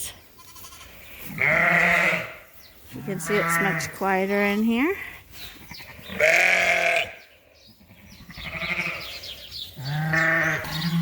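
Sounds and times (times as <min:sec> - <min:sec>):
sheep bleating: 0:00.4 - 0:04.8, 0:05.8 - 0:07.2, 0:07.8 - 0:11.0.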